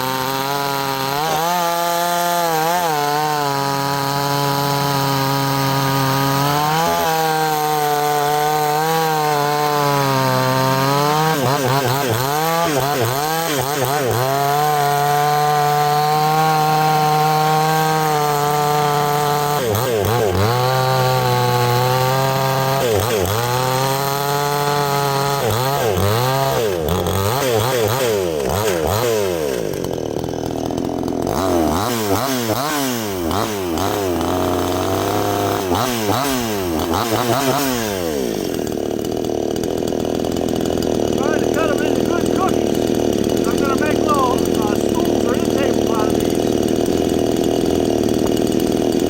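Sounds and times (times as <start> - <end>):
chainsaw cutting log: 0.0 - 49.0.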